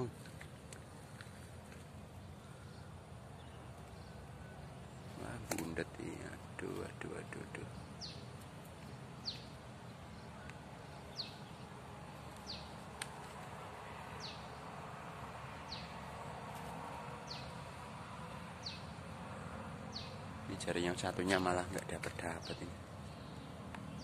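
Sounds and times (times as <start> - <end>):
faint outdoor background: 0.0 - 24.0.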